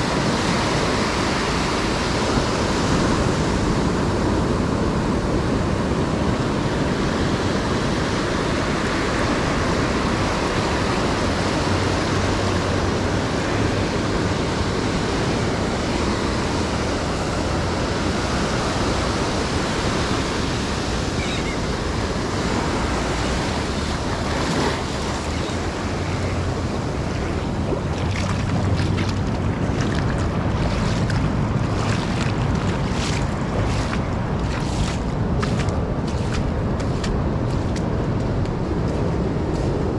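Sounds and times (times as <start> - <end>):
ocean surf breaking: 0.0 - 37.3.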